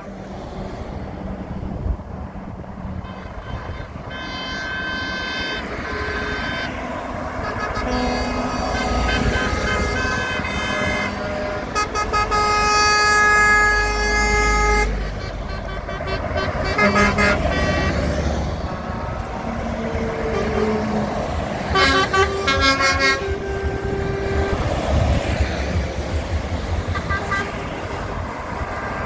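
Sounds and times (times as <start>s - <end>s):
diesel engine rumble: 0.0s - 29.0s
truck horns honking: 2.8s - 29.0s.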